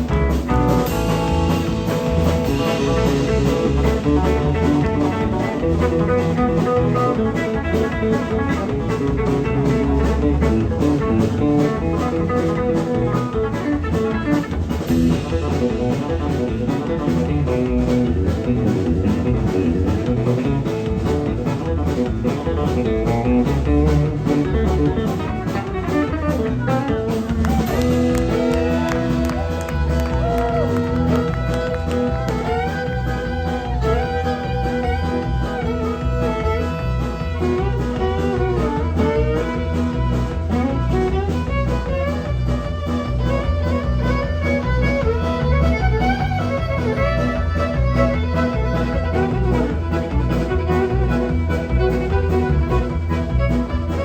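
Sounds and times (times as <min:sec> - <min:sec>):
country band playing: 0:00.0 - 0:54.0.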